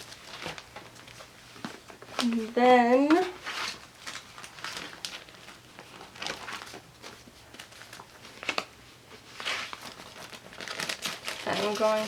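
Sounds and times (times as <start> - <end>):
paper stickers rustling: 0.0 - 12.0.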